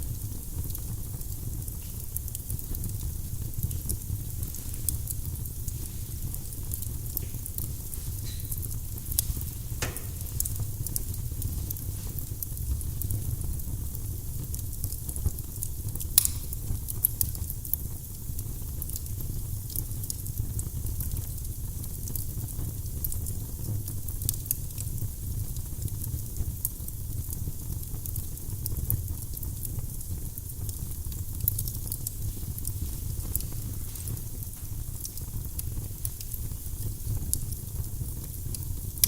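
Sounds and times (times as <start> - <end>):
firewood crackling and popping: 0.0 - 39.0
low rumble of flames: 0.0 - 39.0.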